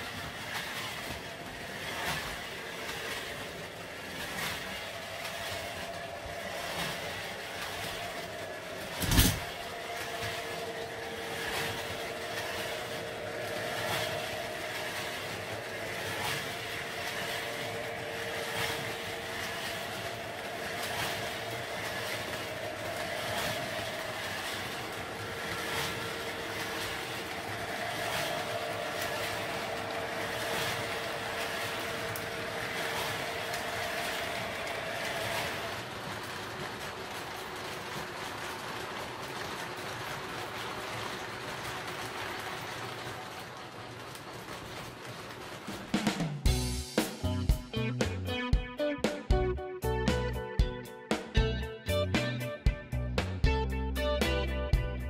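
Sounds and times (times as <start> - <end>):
model train motor tone: 0.0 - 47.1
model train wheels clicking: 0.0 - 47.5.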